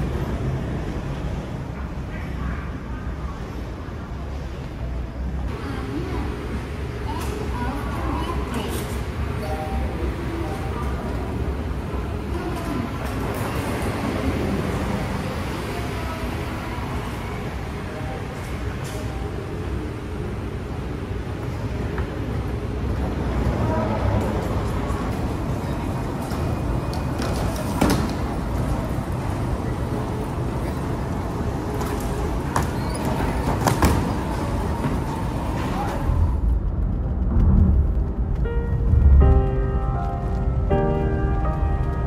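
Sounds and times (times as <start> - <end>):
low rumble and hiss of terminal: 0.0 - 42.0.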